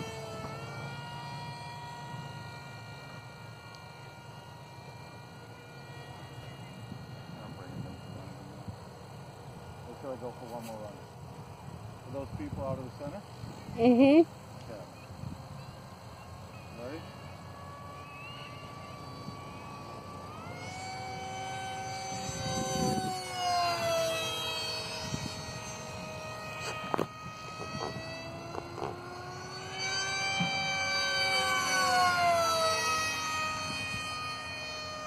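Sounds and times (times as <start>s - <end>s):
model jet electric motor whine: 0.0s - 35.0s.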